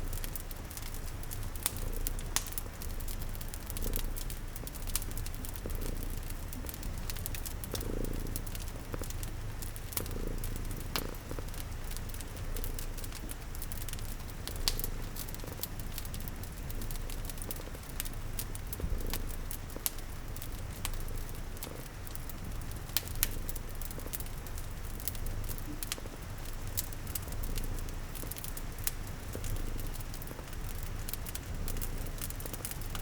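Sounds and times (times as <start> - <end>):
cat purring: 0.0 - 33.0
rain pattering: 0.0 - 33.0
wood fire crackling: 0.0 - 33.0.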